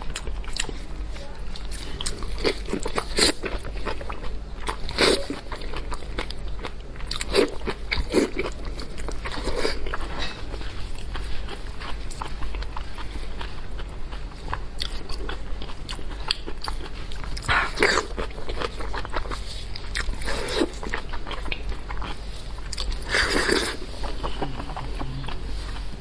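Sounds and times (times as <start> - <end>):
wet chewing and mouth clicks: 1.6 - 25.4.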